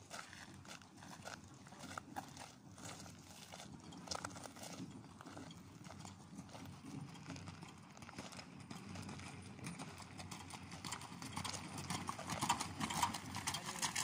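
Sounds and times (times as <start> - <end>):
horse hooves clip-clopping on gravel: 0.0 - 14.0.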